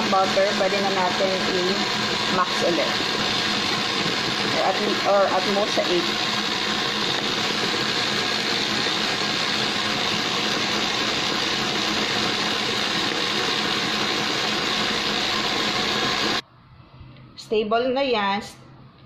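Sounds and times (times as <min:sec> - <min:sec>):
stand mixer running at high speed: 0:00.0 - 0:16.4.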